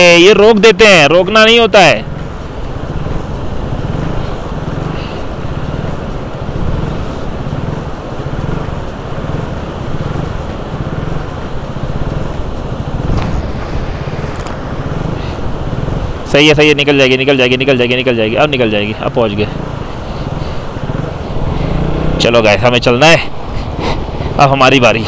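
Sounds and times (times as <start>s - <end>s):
rushing water: 0.0s - 25.0s
vehicle engine low rumble: 0.8s - 25.0s.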